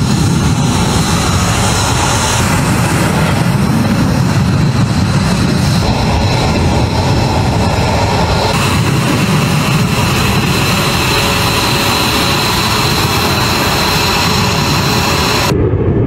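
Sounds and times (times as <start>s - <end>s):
high-pitched engine whine: 0.0s - 16.0s
jet engines roaring: 0.0s - 16.0s.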